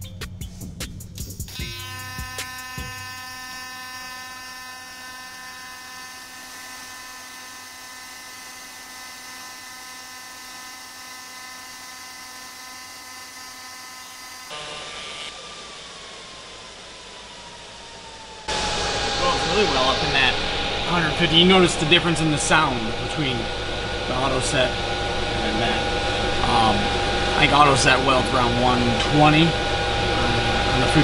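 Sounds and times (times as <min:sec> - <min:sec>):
welding arc buzz: 0:01.4 - 0:15.4, 0:18.5 - 0:31.0.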